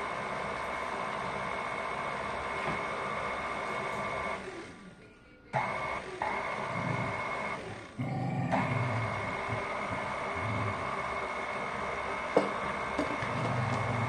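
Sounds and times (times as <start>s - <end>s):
stand mixer motor whine: 0.0s - 5.0s, 5.6s - 14.0s.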